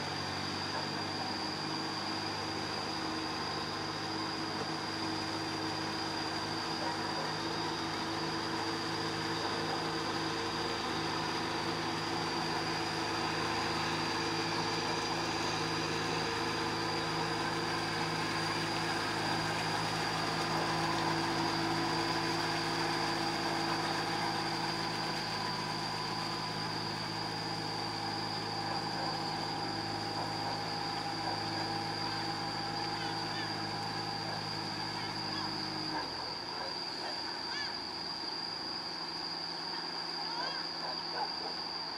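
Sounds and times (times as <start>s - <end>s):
diesel tractor engines running: 0.0s - 41.9s.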